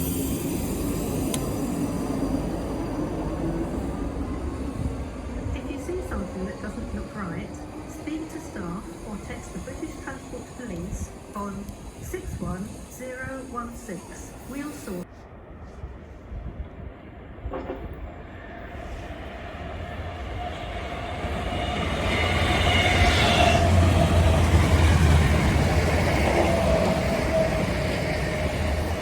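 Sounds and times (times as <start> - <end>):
train steady whine: 0.0 - 29.0
train wheels rumbling on rails: 0.0 - 29.0.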